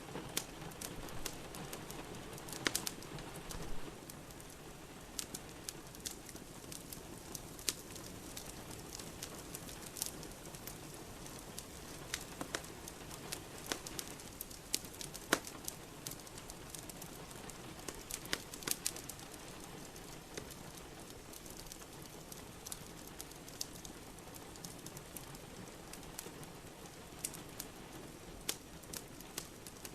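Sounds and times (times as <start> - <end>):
rain hiss: 0.0 - 29.9
wood fire crackling: 0.0 - 29.9.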